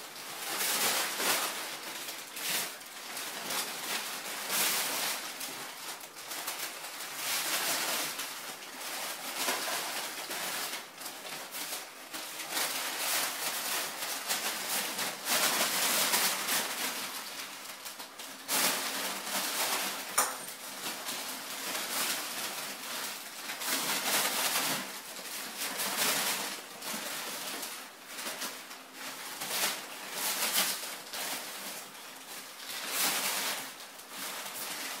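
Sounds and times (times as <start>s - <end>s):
paper rustling and crinkling: 0.0s - 35.0s.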